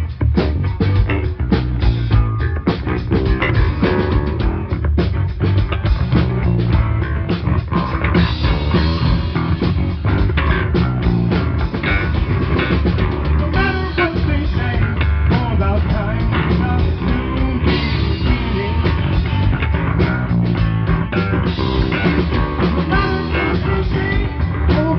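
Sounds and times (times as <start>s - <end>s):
funk rock band playing: 0.0s - 24.9s.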